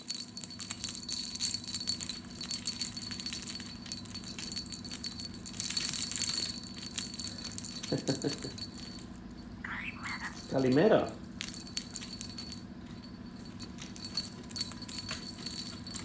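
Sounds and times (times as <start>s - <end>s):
small metal bells jingling: 0.0s - 16.0s.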